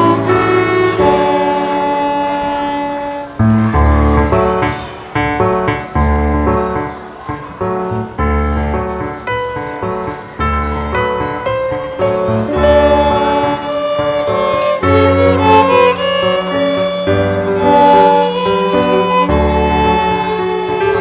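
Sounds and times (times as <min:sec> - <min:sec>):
violin melody: 0:00.0 - 0:06.8, 0:07.9 - 0:21.0
piano accompaniment: 0:00.0 - 0:21.0.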